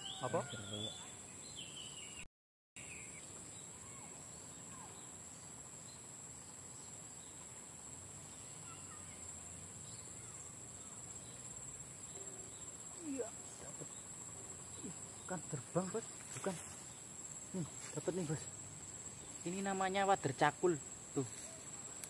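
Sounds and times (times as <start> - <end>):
crickets droning: 0.0 - 2.2, 2.8 - 22.0
faint bird chirps: 0.0 - 7.6, 8.2 - 18.5.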